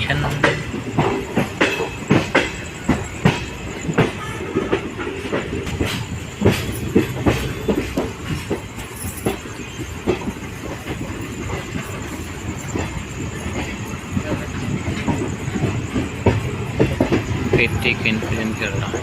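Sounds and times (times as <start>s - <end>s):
train rumble: 0.0s - 19.0s
train wheels knocking on rails: 0.0s - 19.0s.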